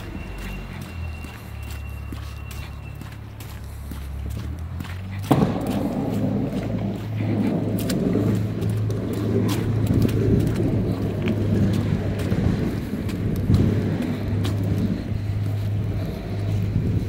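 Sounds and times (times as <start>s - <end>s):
footsteps on slush: 0.0s - 17.0s
wind buffeting microphone: 3.2s - 17.0s.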